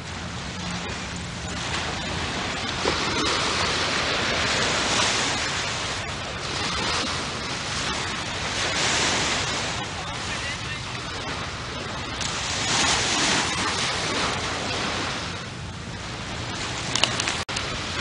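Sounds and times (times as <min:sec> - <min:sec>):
small waves washing on beach: 0:00.0 - 0:18.0.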